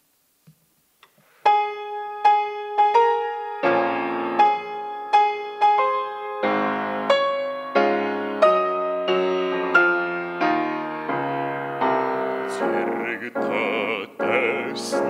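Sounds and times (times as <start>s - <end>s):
grand piano playing: 1.4s - 15.0s.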